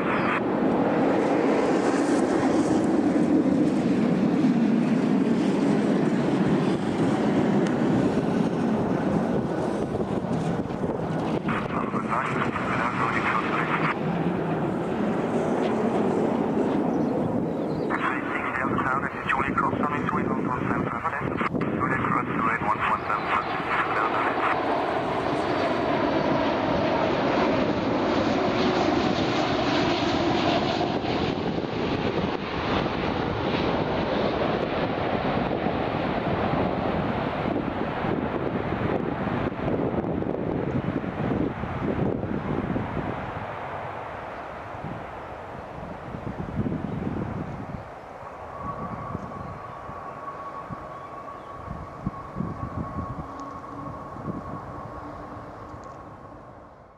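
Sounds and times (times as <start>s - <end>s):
jet engines rumbling: 0.0s - 56.9s.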